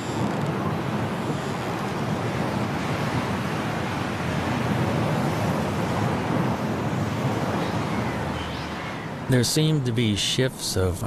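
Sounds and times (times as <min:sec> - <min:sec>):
strong wind blowing: 0:00.0 - 0:11.0.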